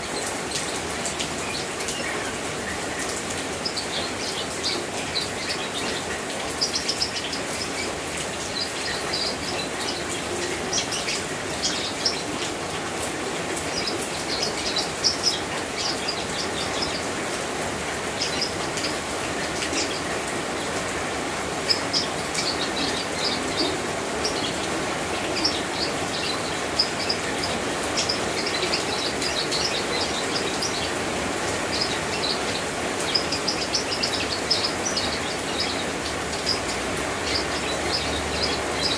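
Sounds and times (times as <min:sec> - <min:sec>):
steady rain: 0:00.0 - 0:38.9
birds chirping: 0:00.1 - 0:38.9.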